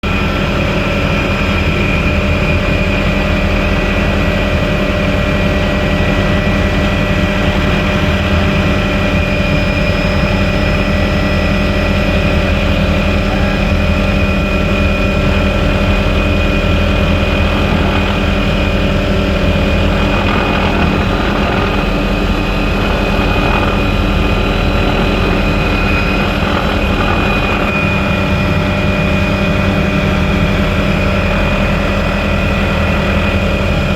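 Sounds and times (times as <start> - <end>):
helicopter rotor and turbine noise: 0.0 - 33.9.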